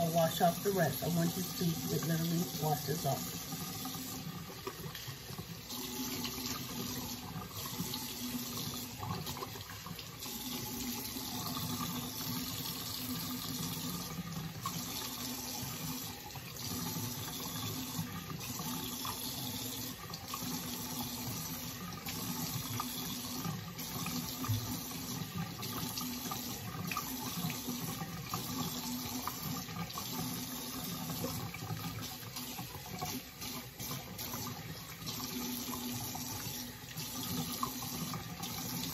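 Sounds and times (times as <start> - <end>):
bathroom tap running: 0.0 - 38.9.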